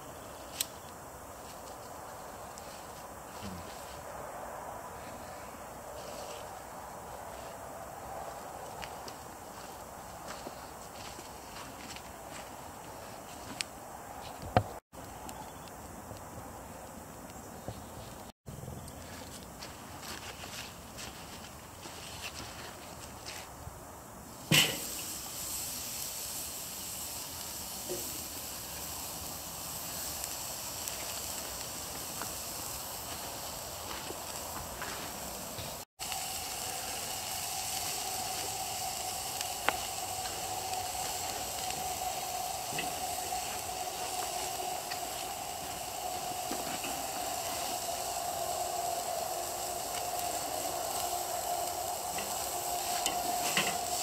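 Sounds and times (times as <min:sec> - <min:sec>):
burgers sizzling on a grill: 0:00.0 - 0:04.1, 0:04.9 - 0:13.6, 0:19.0 - 0:54.0.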